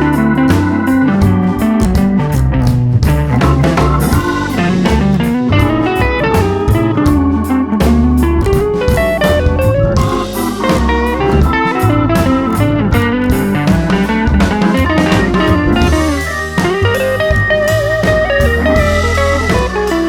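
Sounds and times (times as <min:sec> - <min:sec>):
blues electric guitar with band: 0:00.0 - 0:20.0.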